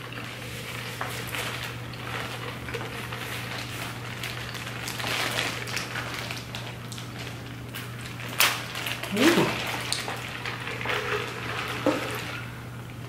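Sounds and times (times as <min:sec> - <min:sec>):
plastic bag crinkling: 0:01.2 - 0:12.2.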